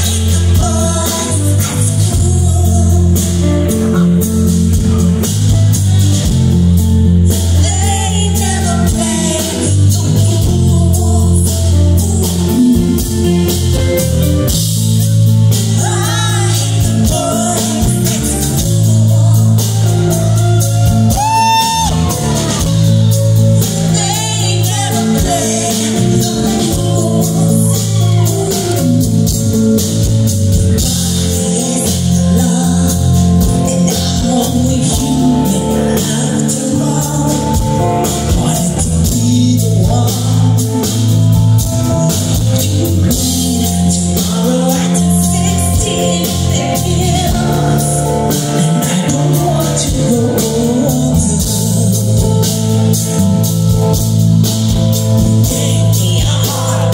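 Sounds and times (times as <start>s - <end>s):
live band music: 0.0s - 56.9s
woman singing lead: 0.0s - 56.9s.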